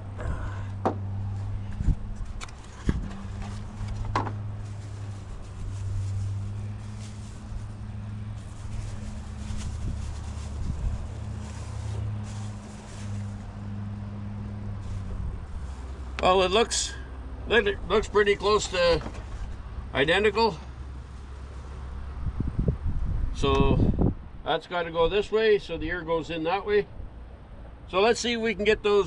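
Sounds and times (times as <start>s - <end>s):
low mechanical hum: 0.0s - 25.8s.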